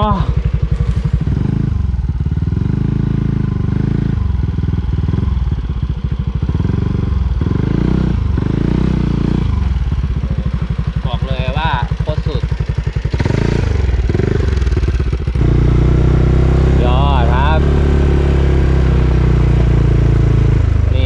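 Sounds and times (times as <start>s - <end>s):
scooter engine labouring: 0.0s - 21.0s.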